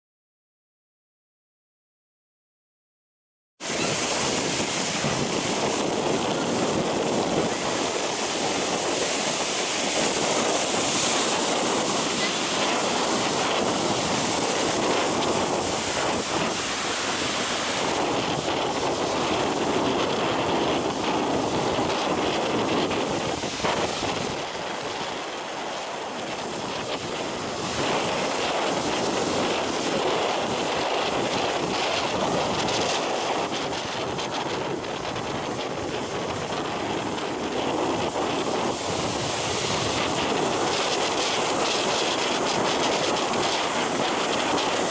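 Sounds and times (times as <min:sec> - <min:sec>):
ocean waves breaking on beach: 0:03.6 - 0:44.9
wind blowing on microphone: 0:03.6 - 0:44.9.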